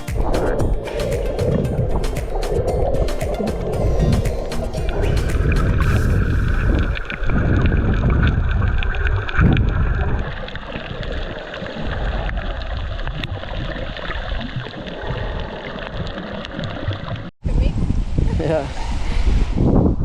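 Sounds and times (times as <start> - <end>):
wind buffeting microphone: 0.0 - 15.5, 17.4 - 20.0
water splashing and gurgling: 0.0 - 17.3.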